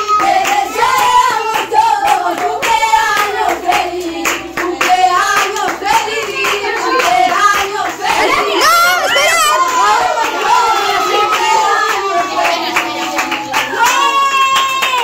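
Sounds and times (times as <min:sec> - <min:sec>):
group singing a birthday song: 0:00.0 - 0:14.4
rhythmic hand clapping: 0:00.0 - 0:15.0.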